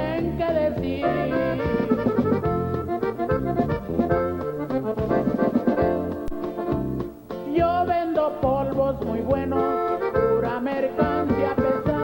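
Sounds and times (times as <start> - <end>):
accordion melody: 0.0 - 12.0
bass: 0.0 - 12.0.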